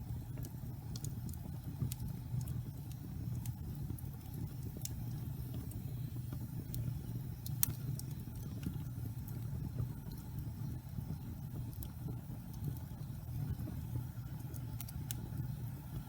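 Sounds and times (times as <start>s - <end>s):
fire crackling: 0.0s - 16.0s
log fire rumbling: 0.0s - 16.0s.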